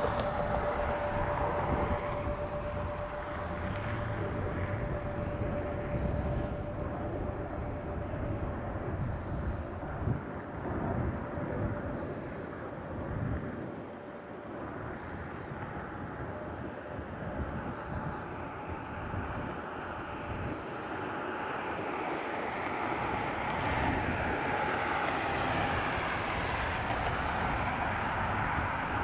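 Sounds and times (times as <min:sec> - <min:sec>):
faint steady whine: 0:00.0 - 0:29.0
jet engines rumbling: 0:00.0 - 0:29.0.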